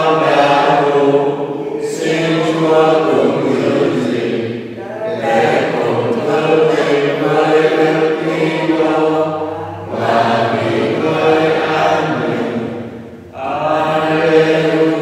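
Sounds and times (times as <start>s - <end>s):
chant-like sacred singing: 0.0s - 15.0s.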